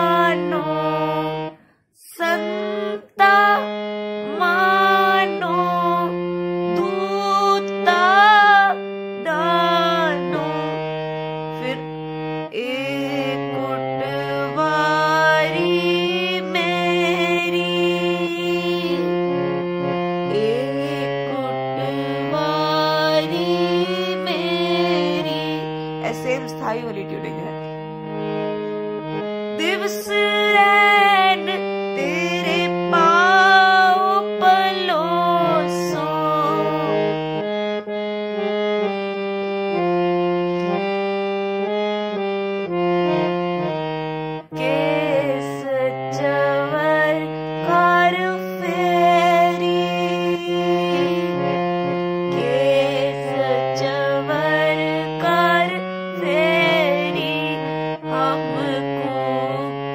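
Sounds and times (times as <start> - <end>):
person singing: 0.0 - 10.8, 11.5 - 41.0, 41.6 - 59.9
harmonium chords: 0.0 - 59.9.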